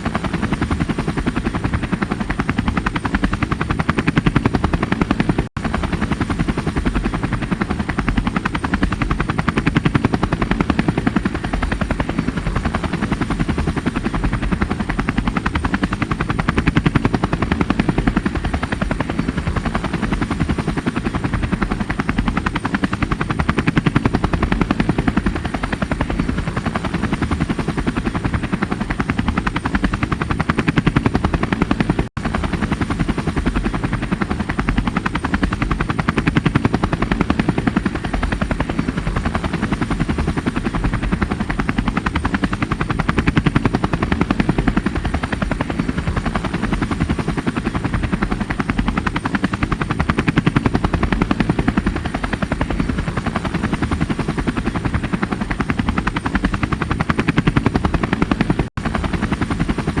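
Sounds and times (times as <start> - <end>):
helicopter rotor chop: 0.0 - 60.0.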